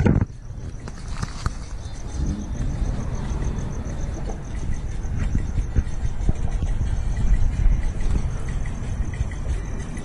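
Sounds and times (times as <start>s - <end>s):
insects chirping: 0.0s - 10.0s
car engine idling: 0.2s - 10.0s.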